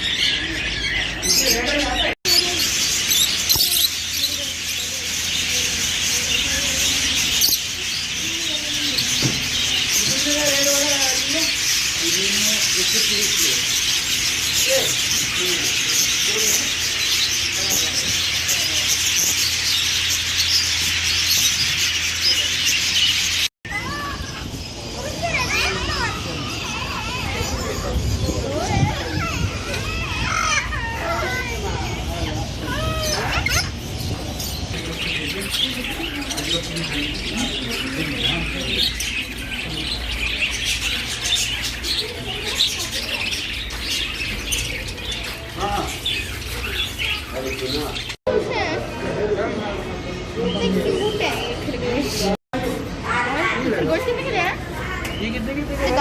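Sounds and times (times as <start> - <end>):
many small birds chirping: 0.0 - 56.0.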